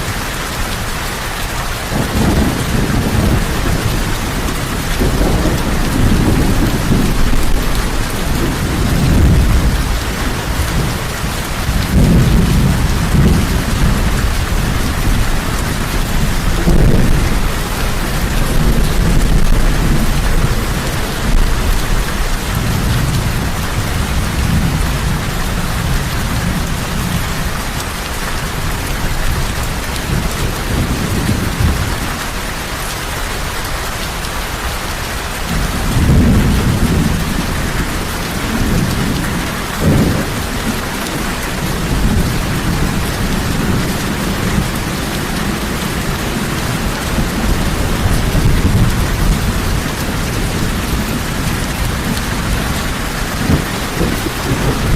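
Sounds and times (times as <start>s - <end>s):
heavy rain: 0.0s - 54.9s
thunder rumbling: 1.7s - 32.2s, 35.4s - 54.9s.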